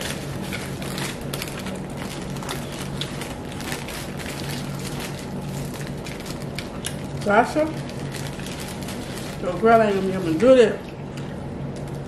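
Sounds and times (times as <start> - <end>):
paper wrapper crinkling: 0.0 - 10.4
steady low hum: 0.0 - 12.0.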